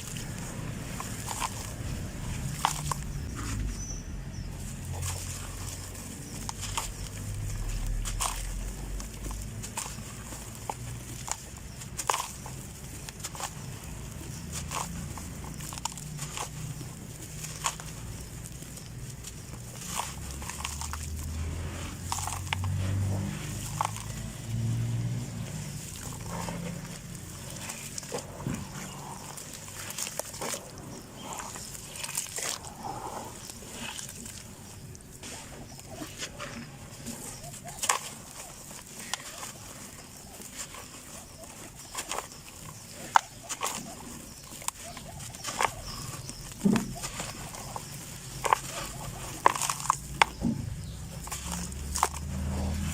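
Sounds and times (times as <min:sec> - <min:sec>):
dry dirt crunching: 0:00.0 - 0:52.9.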